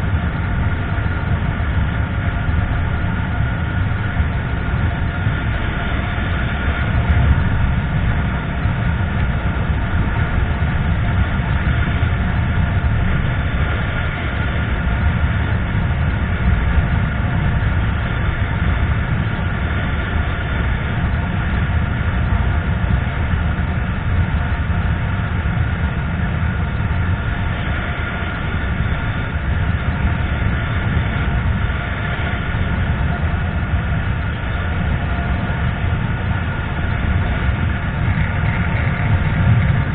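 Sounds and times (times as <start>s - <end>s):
faint steady whine: 0.0s - 39.9s
motorcycle engine running: 0.0s - 39.9s
rush of riding wind: 0.0s - 39.9s.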